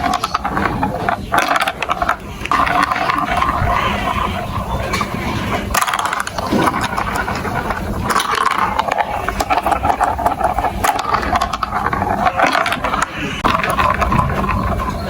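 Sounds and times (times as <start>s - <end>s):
marbles rolling and clattering: 0.0s - 15.0s.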